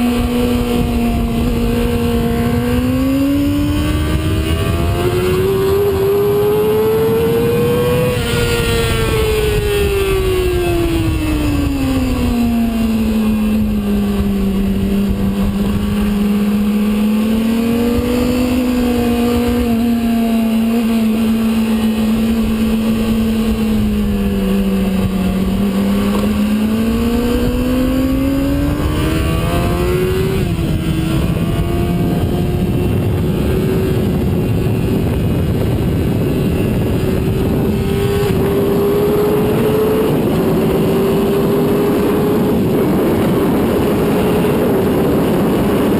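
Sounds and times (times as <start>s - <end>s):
sport bike engine revving: 0.0s - 45.9s
wind rush: 0.0s - 45.9s.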